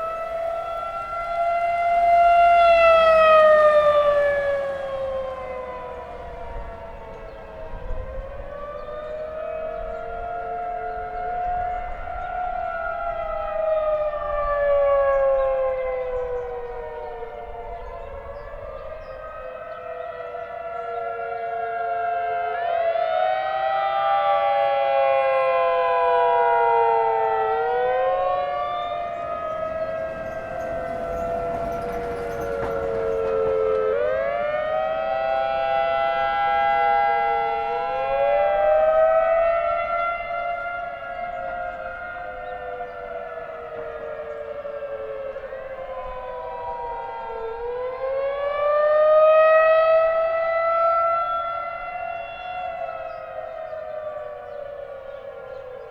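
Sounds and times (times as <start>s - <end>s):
distant warning siren: 0.0s - 55.9s.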